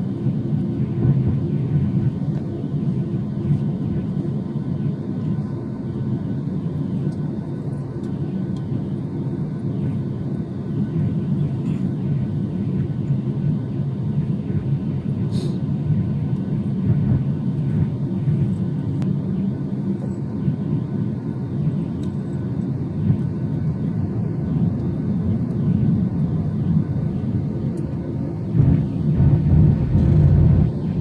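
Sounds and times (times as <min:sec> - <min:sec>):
jet airliner engine rumble: 0:00.0 - 0:31.0.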